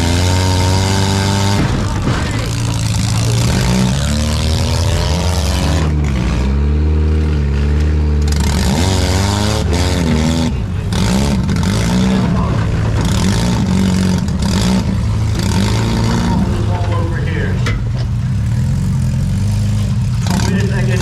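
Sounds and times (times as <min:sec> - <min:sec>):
car engines revving: 0:00.0 - 0:21.0
low engine drone: 0:00.0 - 0:21.0.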